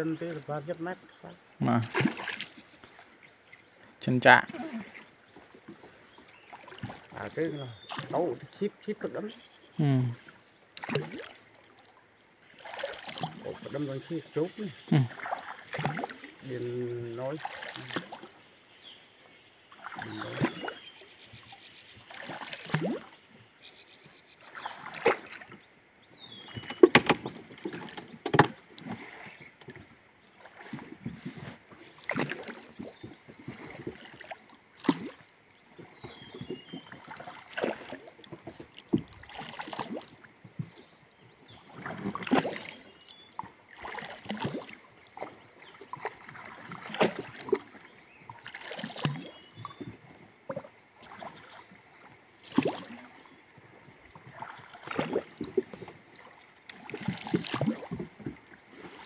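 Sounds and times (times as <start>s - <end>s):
paddle splashing in water: 0.0s - 14.2s, 14.8s - 59.0s.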